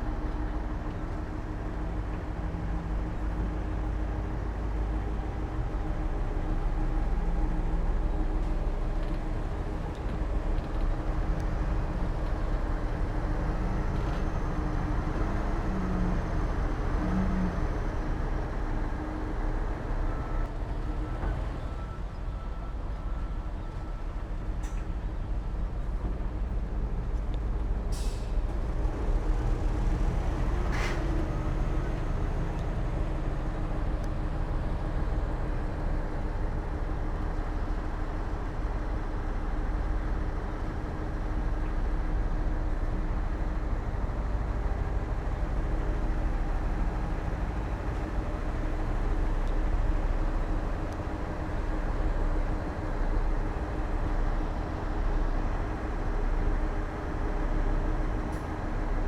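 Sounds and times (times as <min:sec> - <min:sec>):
diesel engine low rumble: 0:00.0 - 0:59.0.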